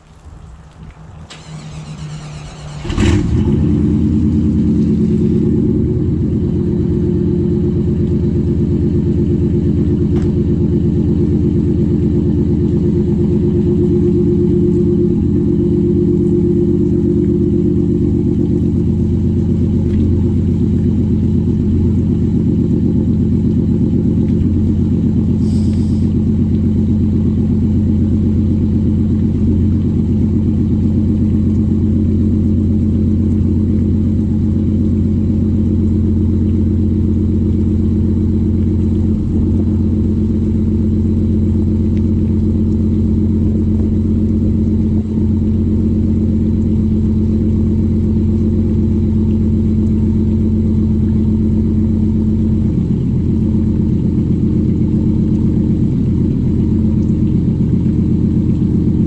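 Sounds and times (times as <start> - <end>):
truck engine cold start and idle: 0.1 - 59.0.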